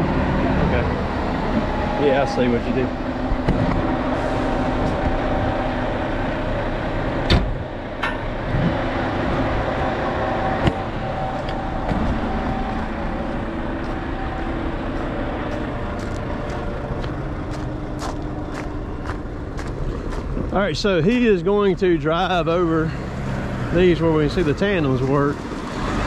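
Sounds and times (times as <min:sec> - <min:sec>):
diesel truck engine running: 0:00.0 - 0:26.0
tyres on gravel road: 0:00.0 - 0:26.0.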